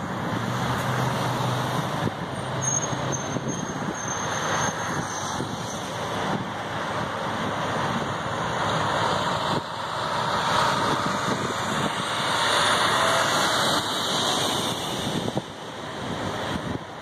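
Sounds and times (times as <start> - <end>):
dump truck driving past: 0.0 - 17.0
road traffic noise: 0.0 - 17.0.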